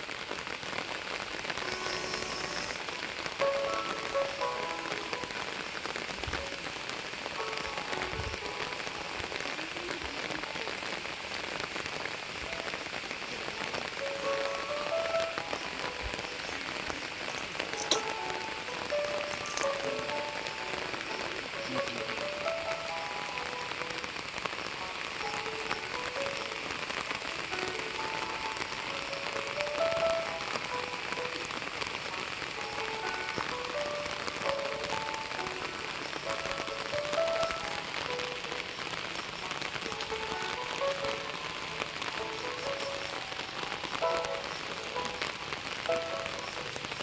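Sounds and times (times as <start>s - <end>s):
rain on leaves and grass: 0.0s - 47.0s
slow melody of held notes: 1.5s - 9.8s, 12.4s - 47.0s.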